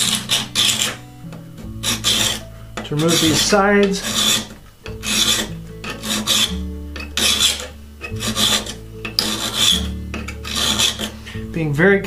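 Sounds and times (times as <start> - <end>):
file rasping on steel: 0.0 - 1.0, 1.6 - 11.4.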